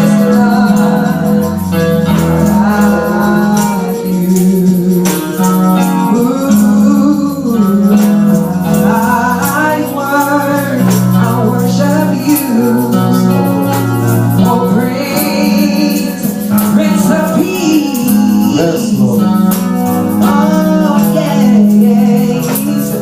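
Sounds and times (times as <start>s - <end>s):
instrumental backing with beat: 0.0s - 23.0s
worship song singing: 0.0s - 23.0s.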